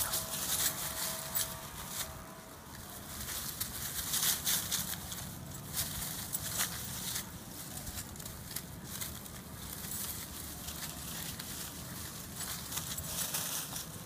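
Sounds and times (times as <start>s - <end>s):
leaves rustling and crackling: 0.0s - 14.0s
steady low rumble: 0.0s - 14.0s.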